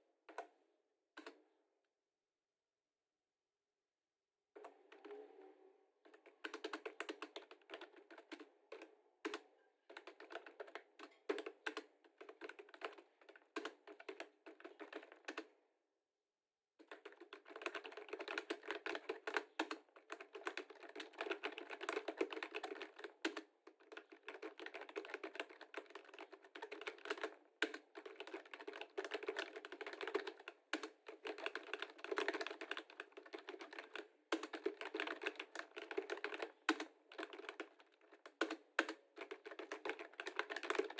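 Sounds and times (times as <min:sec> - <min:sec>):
computer keyboard typing: 0:06.1 - 0:15.5, 0:16.8 - 0:40.9.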